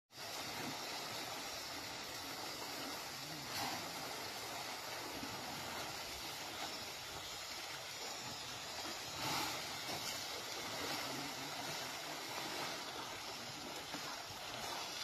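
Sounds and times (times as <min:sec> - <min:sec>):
water hissing around wading elephants: 0:00.1 - 0:15.0.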